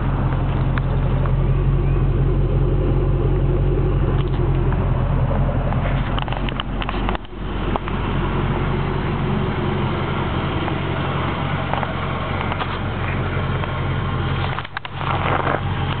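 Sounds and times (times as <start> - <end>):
v eight engine idling: 0.0 - 16.0.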